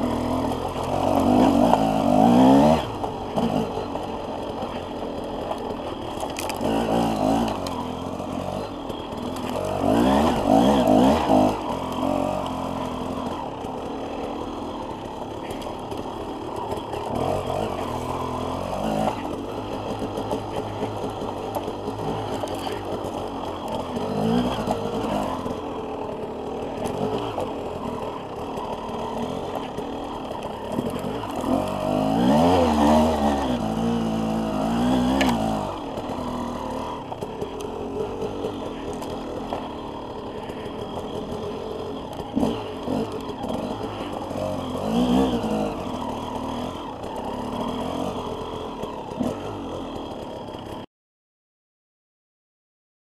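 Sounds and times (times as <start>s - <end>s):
dirt bike engine revving: 0.0s - 50.8s.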